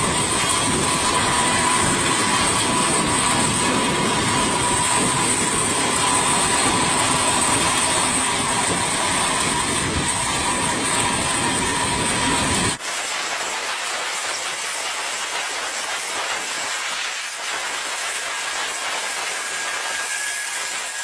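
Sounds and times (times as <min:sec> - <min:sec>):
aircraft machinery rumbling hiss: 0:00.0 - 0:21.0
constant high whine: 0:00.0 - 0:21.0.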